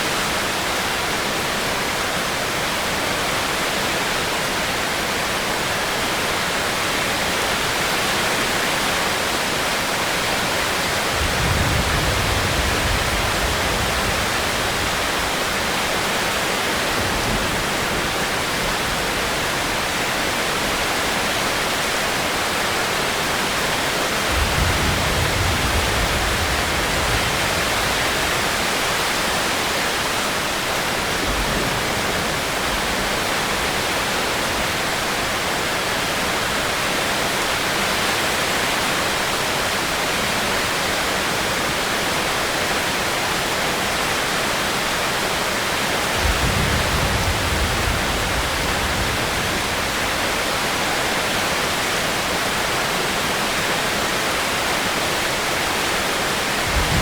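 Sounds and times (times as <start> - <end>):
heavy rain hissing: 6.7 - 57.0.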